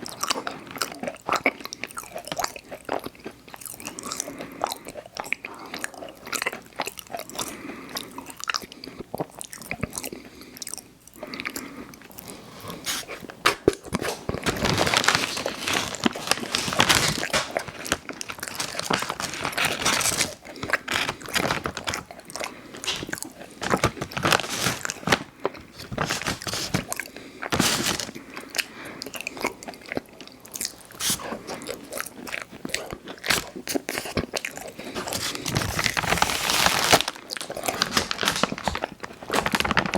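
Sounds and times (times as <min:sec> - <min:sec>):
cookie biting and chewing: 0:00.0 - 0:14.6, 0:16.0 - 0:36.0.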